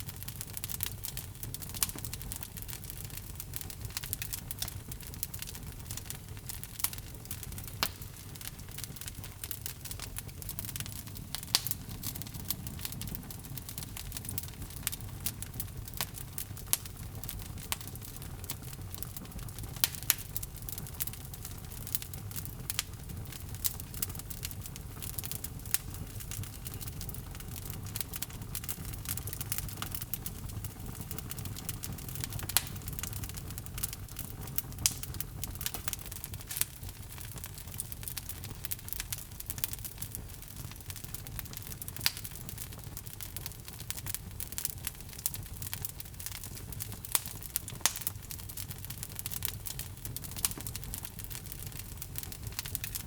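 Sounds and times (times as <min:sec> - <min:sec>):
fire crackles and pops: 0:00.0 - 0:53.0
low rumble of flame: 0:00.0 - 0:53.0.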